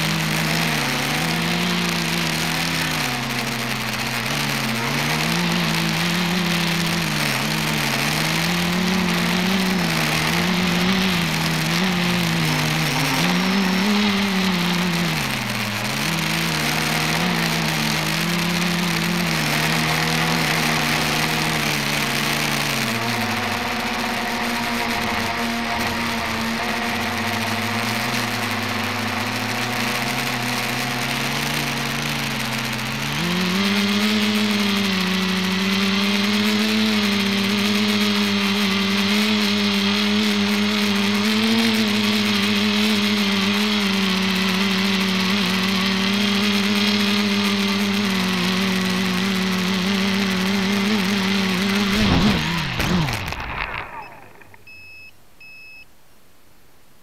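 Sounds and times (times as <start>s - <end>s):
multicopter propellers whirring: 0.0s - 54.7s.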